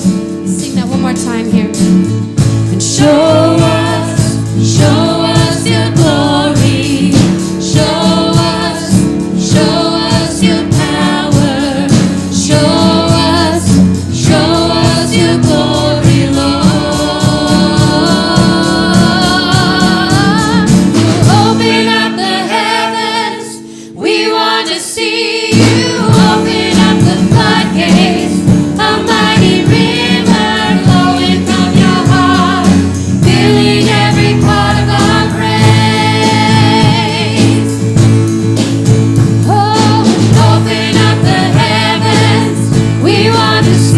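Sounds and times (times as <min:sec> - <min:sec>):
band accompaniment: 0:00.0 - 0:43.9
choir singing worship song: 0:02.3 - 0:43.9.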